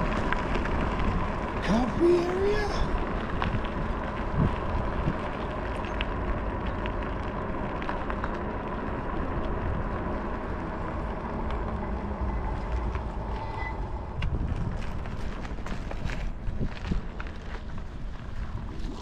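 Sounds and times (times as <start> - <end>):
tyre and road noise: 0.0 - 19.0
wind rumbling on microphone: 0.0 - 19.0.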